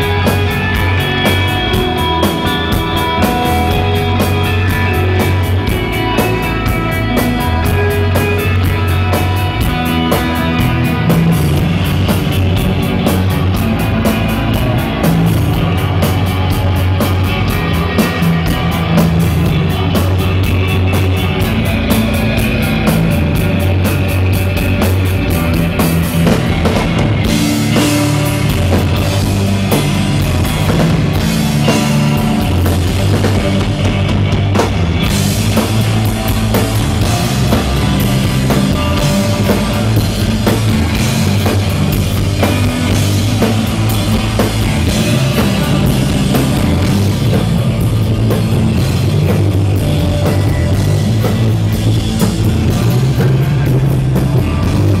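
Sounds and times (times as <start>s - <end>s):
electric bass line: 0.0s - 55.0s
live rock band playing: 0.0s - 55.0s.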